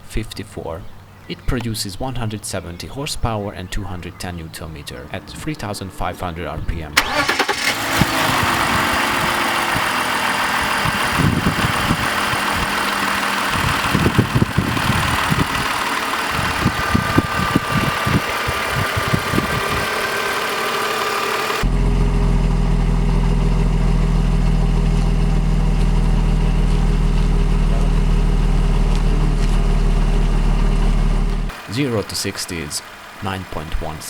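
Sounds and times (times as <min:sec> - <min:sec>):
car engine idling: 0:02.5 - 0:34.0.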